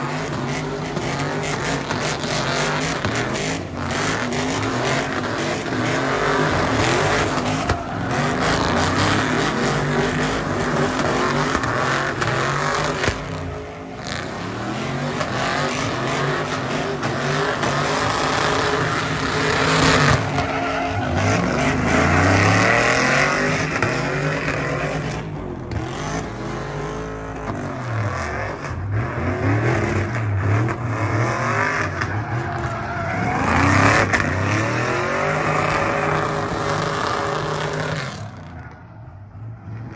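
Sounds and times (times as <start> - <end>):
tires screeching: 0.0 - 39.9
truck engine revving: 0.0 - 39.9.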